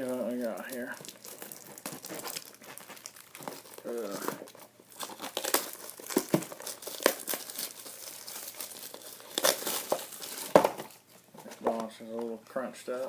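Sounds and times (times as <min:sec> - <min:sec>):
cardboard packaging being torn open: 0:00.0 - 0:11.0.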